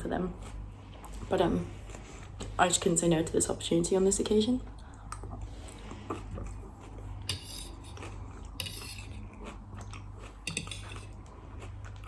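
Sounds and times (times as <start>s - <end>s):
chewing crisp salad: 0.0s - 2.9s, 4.6s - 12.0s.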